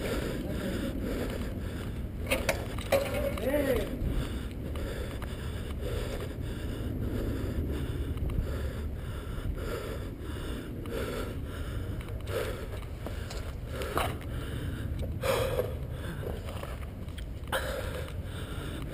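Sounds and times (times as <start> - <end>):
close breathing and body movement: 0.0 - 18.9
steady low rumble: 0.0 - 18.9.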